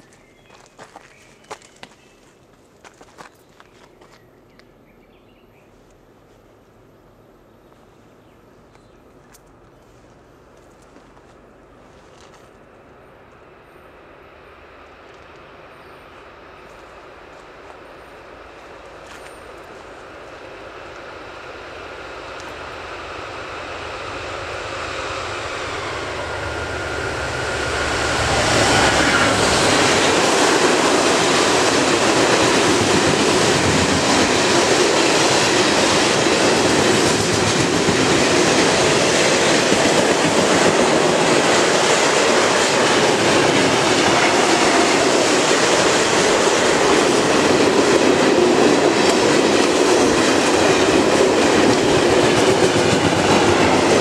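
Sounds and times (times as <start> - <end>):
diesel locomotive engine drone: 2.4 - 54.0
train wheels rumbling on rails: 8.7 - 54.0.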